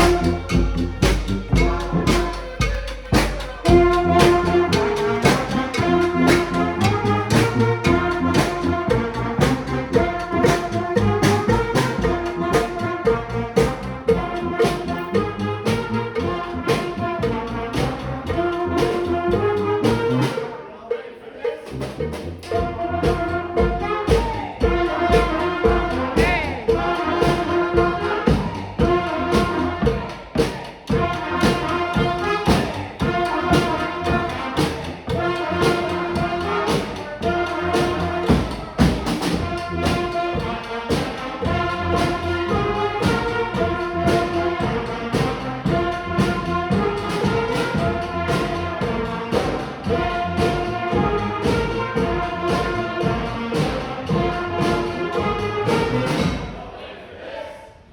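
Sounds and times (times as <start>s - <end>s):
steady drum beat: 0.0s - 20.6s, 21.5s - 56.8s
brass band playing: 0.0s - 56.9s.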